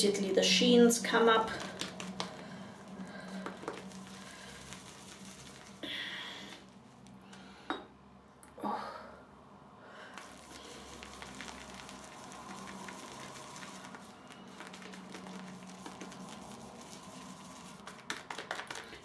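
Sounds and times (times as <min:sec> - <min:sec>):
shaving brush whisking lather: 0:00.4 - 0:07.1, 0:10.2 - 0:19.0.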